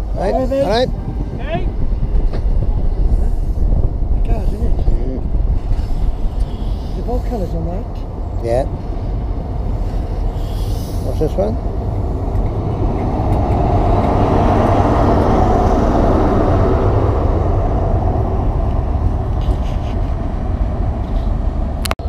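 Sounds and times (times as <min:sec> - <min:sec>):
diesel train engine passing: 0:00.0 - 0:21.9
train wheel noise: 0:00.0 - 0:21.9.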